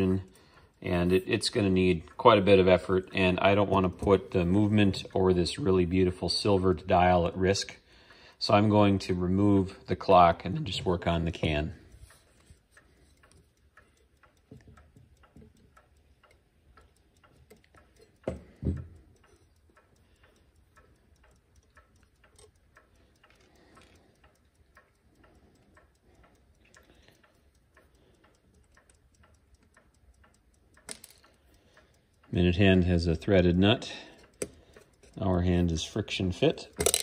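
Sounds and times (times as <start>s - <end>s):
clock ticking quickly: 0.0s - 7.4s, 8.4s - 37.0s.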